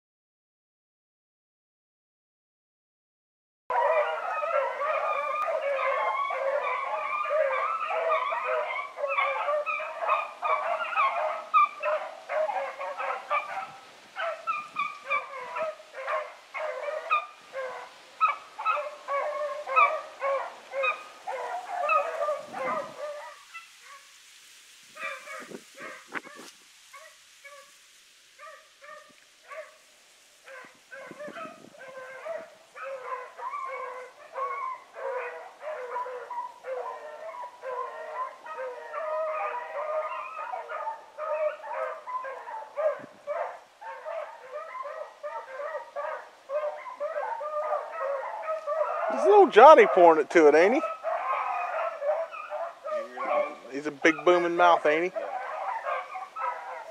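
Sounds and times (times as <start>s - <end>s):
pack of dogs baying: 3.7s - 24.1s, 24.9s - 27.7s, 28.4s - 56.9s
single dog barks: 3.7s - 24.1s, 24.9s - 27.8s, 28.4s - 56.9s.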